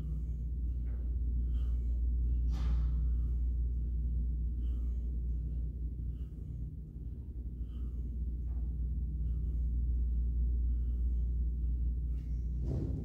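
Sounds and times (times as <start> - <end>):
man breathing: 0.0 - 13.0
steady low hum: 0.0 - 13.0.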